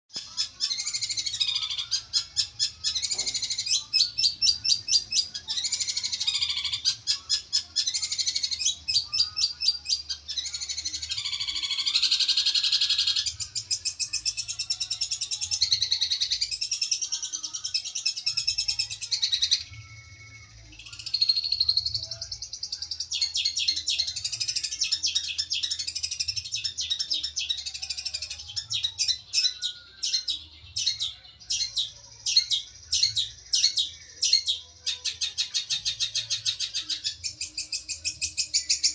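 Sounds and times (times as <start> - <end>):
bird chattering song: 0.1 - 19.8, 20.4 - 38.9.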